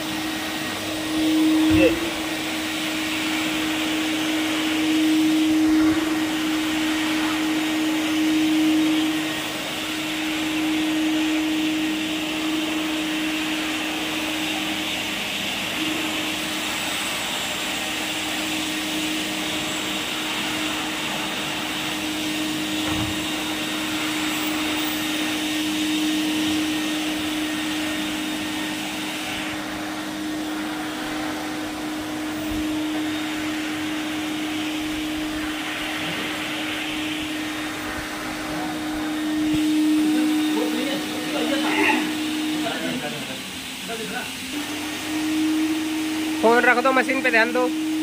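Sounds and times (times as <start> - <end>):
vacuum cleaner running: 0.0 - 48.0
vacuum nozzle on carpet: 0.0 - 48.0.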